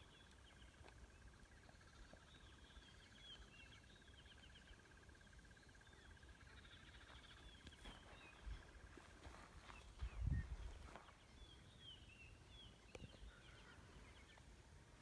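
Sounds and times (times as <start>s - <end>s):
bird chirps: 0.0s - 14.5s.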